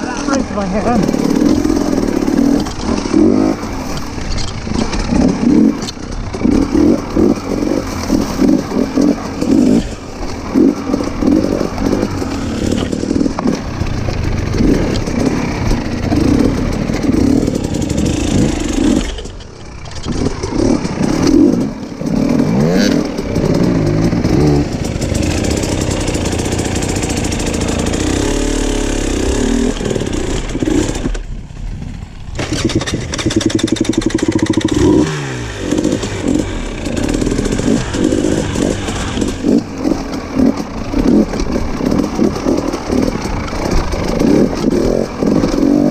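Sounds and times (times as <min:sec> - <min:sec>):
dirt bike engine revving: 0:00.0 - 0:31.3, 0:32.3 - 0:45.9.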